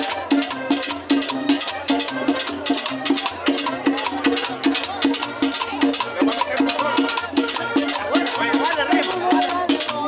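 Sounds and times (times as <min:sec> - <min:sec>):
hand percussion beat: 0:00.0 - 0:10.0.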